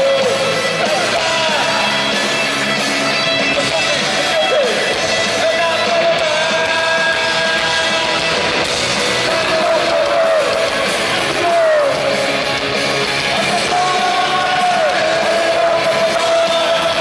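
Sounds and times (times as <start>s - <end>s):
punk rock band playing live: 0.0s - 17.0s.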